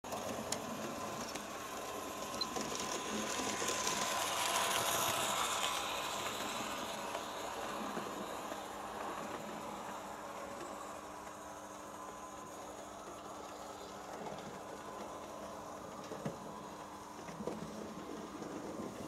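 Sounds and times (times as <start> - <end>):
model train motor whir: 0.1 - 19.0.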